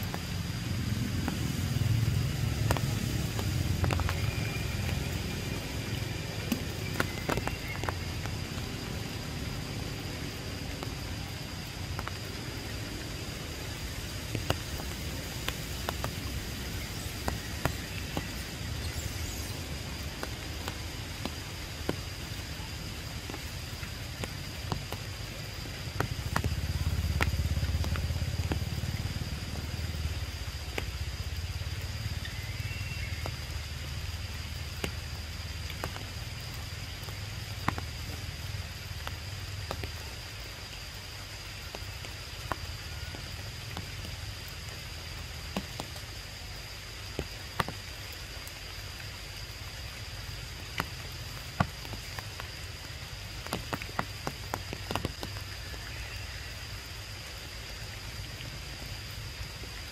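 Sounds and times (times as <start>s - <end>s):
rain hiss in forest: 0.0s - 59.9s
sharp water drips: 0.0s - 59.9s.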